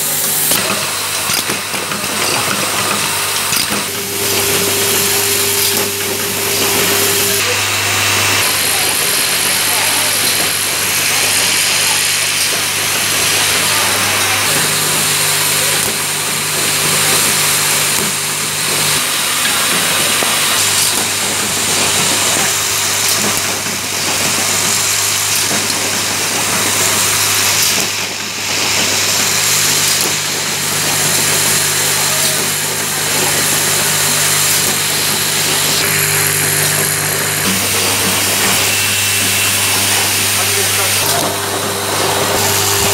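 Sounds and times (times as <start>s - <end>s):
vibratory feeders humming: 0.0s - 42.9s.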